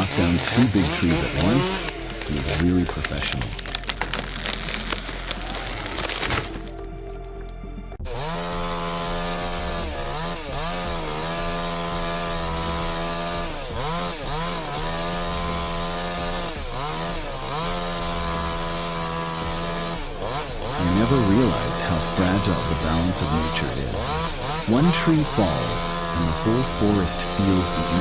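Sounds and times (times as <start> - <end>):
chainsaw cutting wood: 0.0 - 6.6, 8.0 - 28.0.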